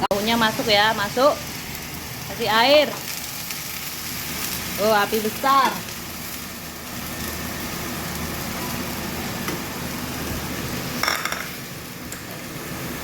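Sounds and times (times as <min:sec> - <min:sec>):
pan hissing on gas flame: 0:00.0 - 0:13.0.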